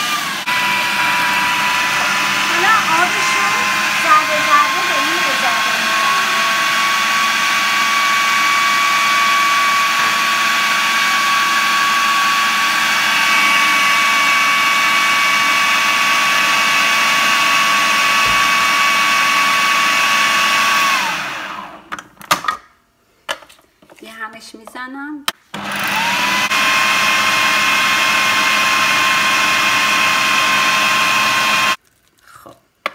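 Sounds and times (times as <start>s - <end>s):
food processor motor whining: 0.0s - 22.0s, 25.5s - 31.8s.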